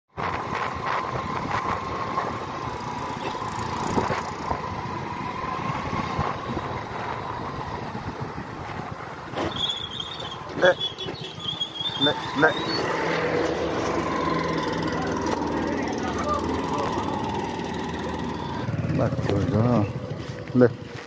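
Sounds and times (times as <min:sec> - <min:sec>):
road noise: 0:00.1 - 0:21.0
motorcycle engine running: 0:00.2 - 0:08.7, 0:10.3 - 0:21.0.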